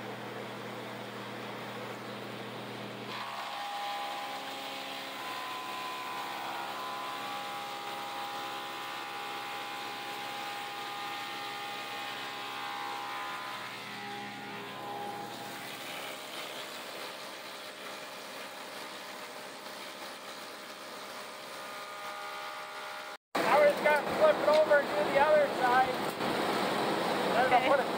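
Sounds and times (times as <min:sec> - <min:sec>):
woodworking machine whine and hum: 0:00.0 - 0:27.9.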